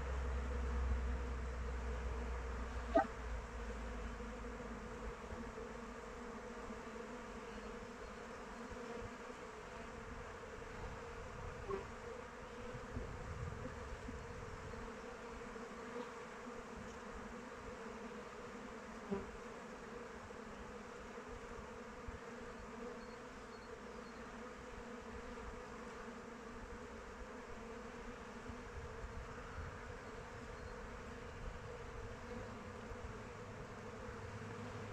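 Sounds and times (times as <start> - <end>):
bees buzzing: 0.1 - 34.9.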